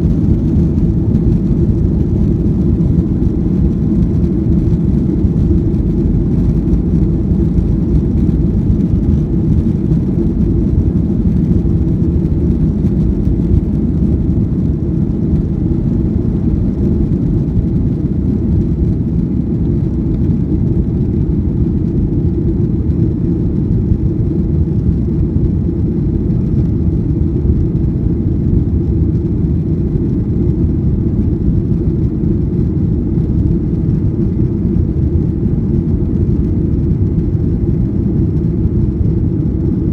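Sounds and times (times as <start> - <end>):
airliner jet engines rumbling: 0.0 - 39.9.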